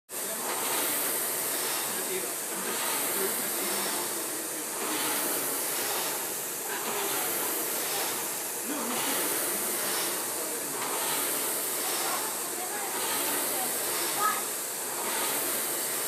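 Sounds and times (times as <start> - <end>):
rowing machine flywheel whooshing: 0.1 - 16.0.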